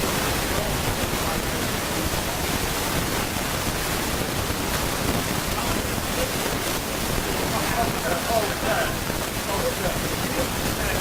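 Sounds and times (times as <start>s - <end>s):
loud recording hiss: 0.0s - 11.0s.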